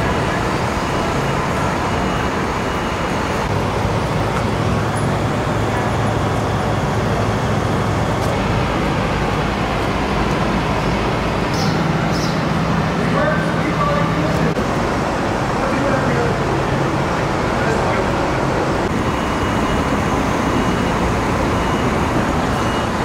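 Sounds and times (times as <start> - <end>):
city street traffic: 0.0 - 23.0
low engine drone: 0.0 - 23.0.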